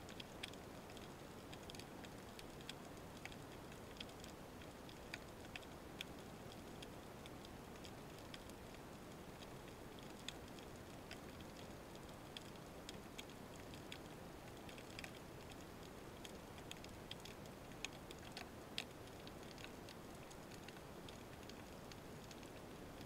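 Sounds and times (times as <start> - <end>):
sharp clicks and crackles: 0.1 - 23.0.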